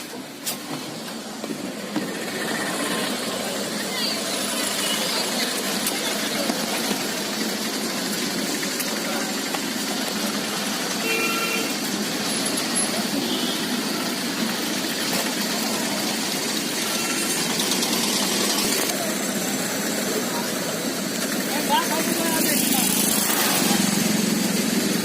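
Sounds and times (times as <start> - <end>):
traffic noise: 0.0 - 25.0
vehicle engine: 0.0 - 25.0.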